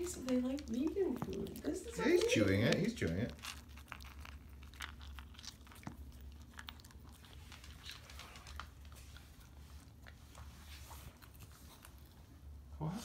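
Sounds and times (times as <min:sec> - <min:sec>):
dog chewing dry kibble: 0:00.0 - 0:12.5.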